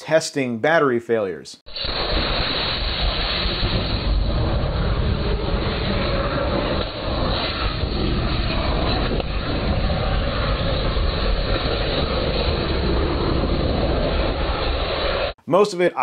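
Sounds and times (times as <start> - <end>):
jets of flame rushing: 1.7 - 15.4
deep low rumble: 1.8 - 15.3.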